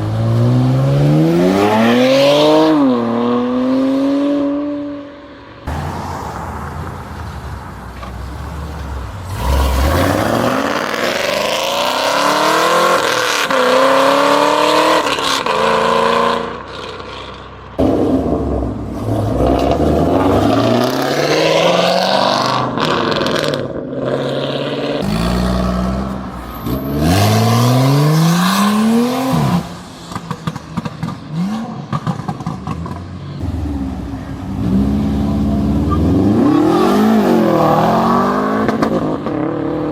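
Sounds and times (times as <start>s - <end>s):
car engines revving hard: 0.0s - 39.9s.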